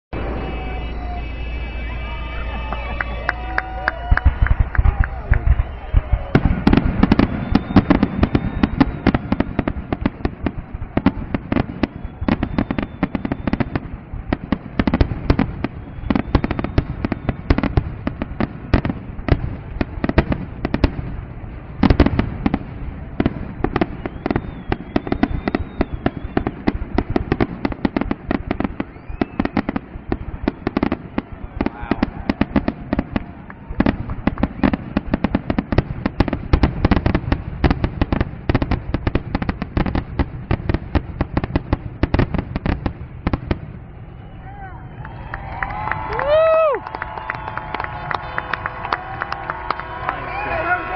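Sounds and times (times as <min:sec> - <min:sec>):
fireworks bursting and crackling: 0:00.2 - 0:50.9.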